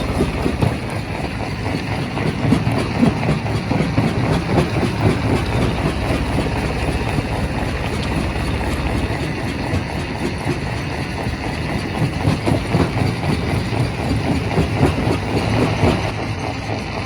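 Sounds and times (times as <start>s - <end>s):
rock crusher rumbling: 0.0s - 16.2s.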